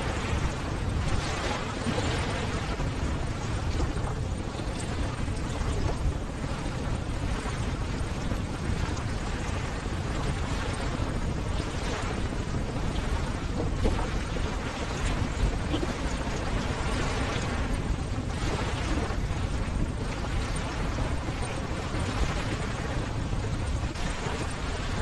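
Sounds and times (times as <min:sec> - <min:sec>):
waves breaking: 0:00.0 - 0:25.0.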